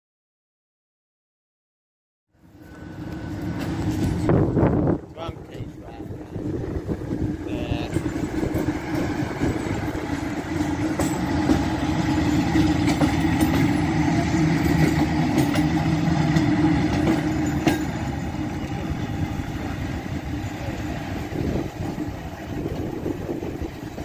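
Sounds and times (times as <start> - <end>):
electric locomotive motor hum: 2.3 - 24.0.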